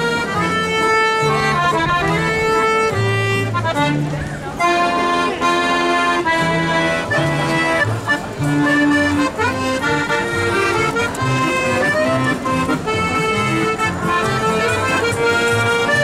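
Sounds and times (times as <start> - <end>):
piano accordion playing a tune: 0.0 - 16.0.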